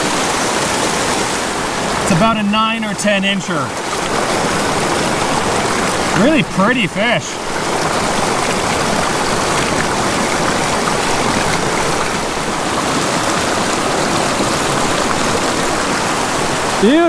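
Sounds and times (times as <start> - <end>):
creek running over rocks: 0.0 - 17.0.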